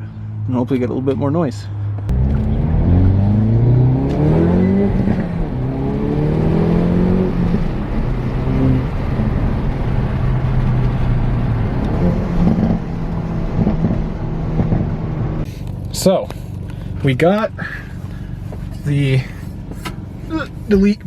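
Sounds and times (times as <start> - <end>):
car engine accelerating: 2.0 - 20.7.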